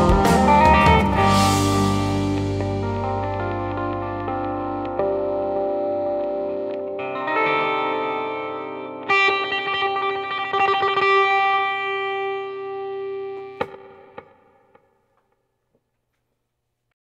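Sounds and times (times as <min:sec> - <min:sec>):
electric guitar solo: 0:00.0 - 0:14.9.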